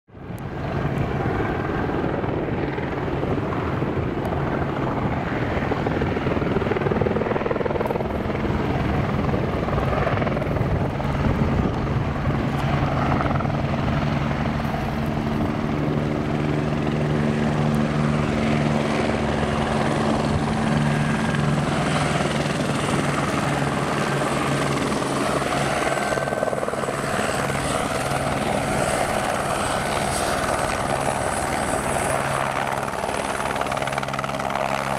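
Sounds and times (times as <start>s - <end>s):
helicopter rotor and engine noise: 0.1s - 34.9s
high-pitched turbine whine: 0.1s - 34.9s.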